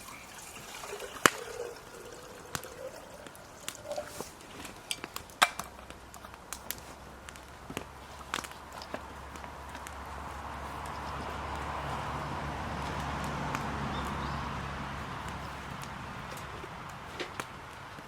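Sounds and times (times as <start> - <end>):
campfire crackling and popping: 0.0 - 18.0
quiet hiss: 0.0 - 18.0.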